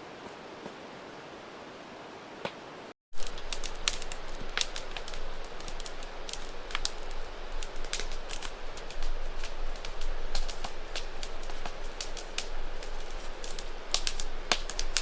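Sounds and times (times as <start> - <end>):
campfire crackling and popping: 2.4 - 15.0.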